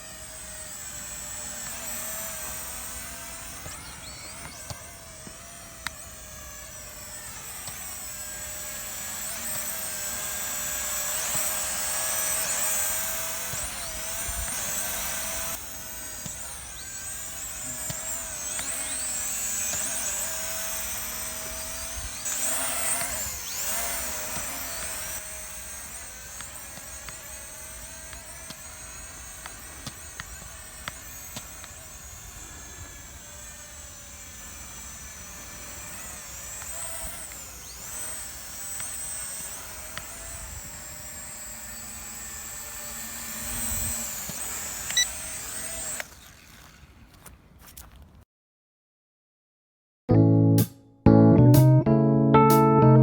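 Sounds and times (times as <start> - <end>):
drone propellers whining: 0.0 - 47.2.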